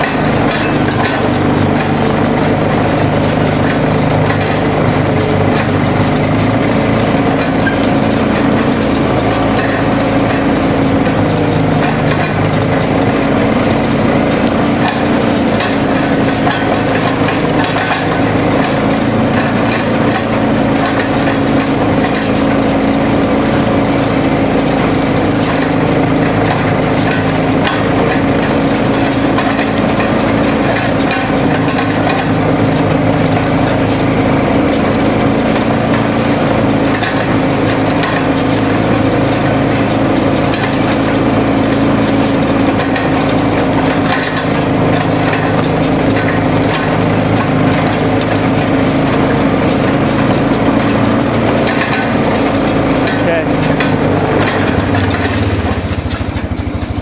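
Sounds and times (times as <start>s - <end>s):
motor humming steadily: 0.0s - 57.0s.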